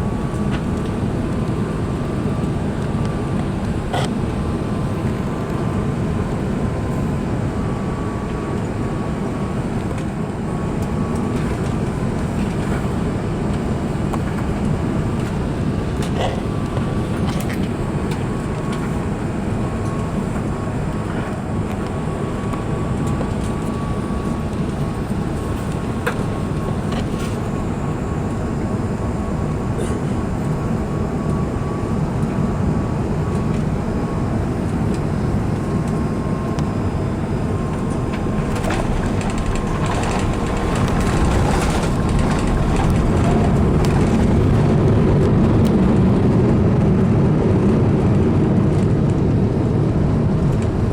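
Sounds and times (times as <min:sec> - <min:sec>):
airliner cabin rumble: 0:00.0 - 0:50.9.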